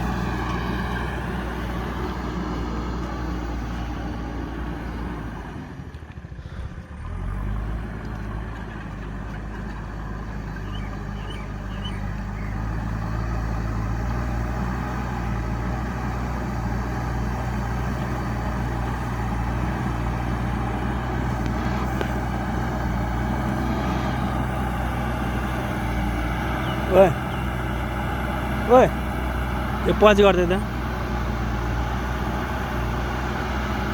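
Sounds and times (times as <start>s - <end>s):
diesel engine running under load: 0.0s - 33.9s.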